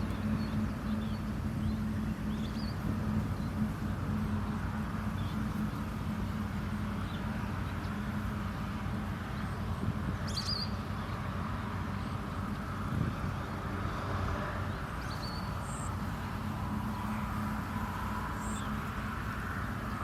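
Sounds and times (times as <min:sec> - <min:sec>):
small birds chirping: 0:00.0 - 0:13.6, 0:14.6 - 0:20.0
steady low hum: 0:00.0 - 0:20.0.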